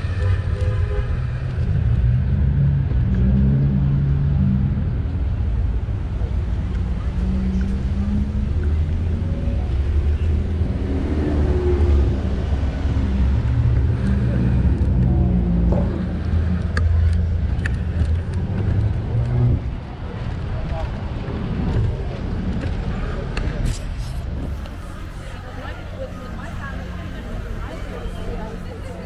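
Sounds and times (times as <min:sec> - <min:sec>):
cars passing: 0:00.0 - 0:29.0
faint voices: 0:03.0 - 0:29.0.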